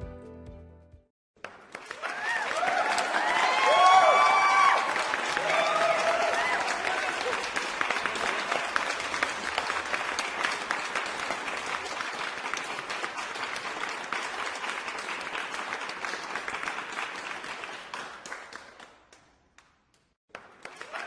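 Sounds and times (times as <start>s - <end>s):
crowd applause: 1.4s - 19.2s, 20.3s - 21.0s.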